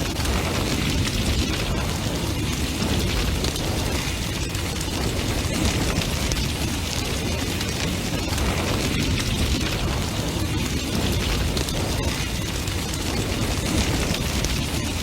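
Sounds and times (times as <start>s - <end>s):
fire crackling and popping: 0.0s - 15.0s
roar of flames: 0.0s - 15.0s.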